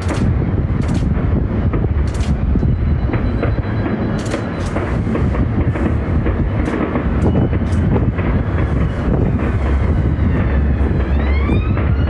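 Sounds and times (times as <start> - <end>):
distant fireworks booming: 0.0 - 12.0
fireworks bangs and crackles: 0.0 - 12.0
wind buffeting microphone: 0.0 - 12.0.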